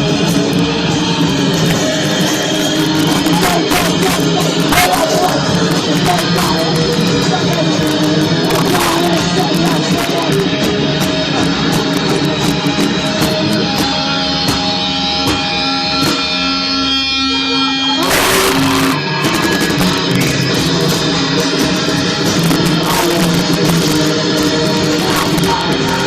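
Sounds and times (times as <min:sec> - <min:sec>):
punk band playing: 0:00.0 - 0:26.0.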